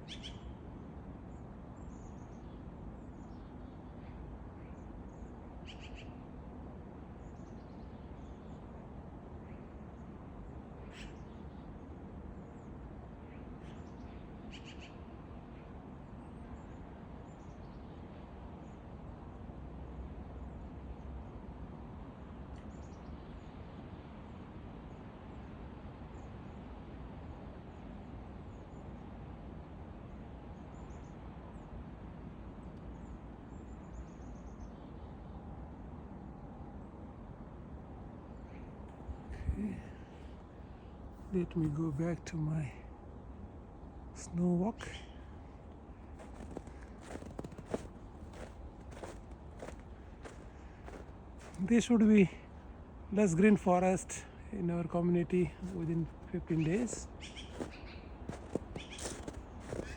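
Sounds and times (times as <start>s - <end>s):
songbirds chirping: 0.0s - 36.8s, 37.9s - 59.9s
low outdoor rumble: 0.0s - 59.9s.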